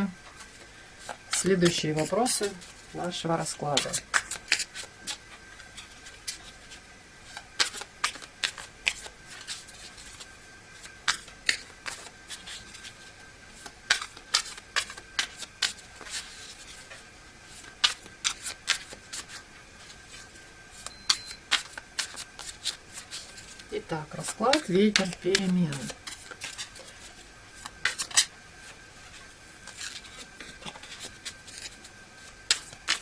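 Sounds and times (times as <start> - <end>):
cards being shuffled: 1.0 - 2.8, 3.4 - 20.9, 21.5 - 33.0.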